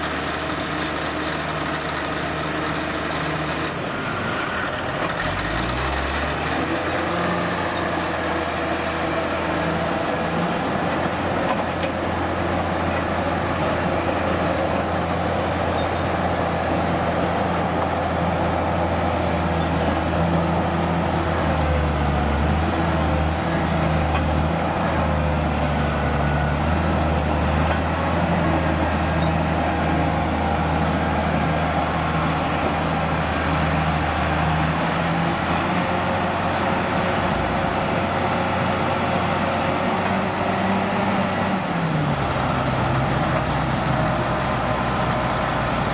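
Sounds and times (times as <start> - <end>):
heavy truck engine running: 0.0 - 45.9.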